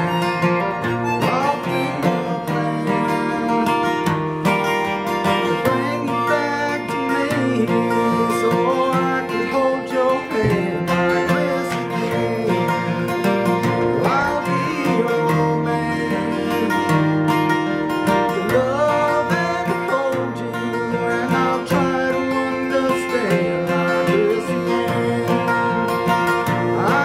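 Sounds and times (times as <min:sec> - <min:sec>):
acoustic guitar: 0:00.0 - 0:27.0
man singing: 0:00.0 - 0:27.0.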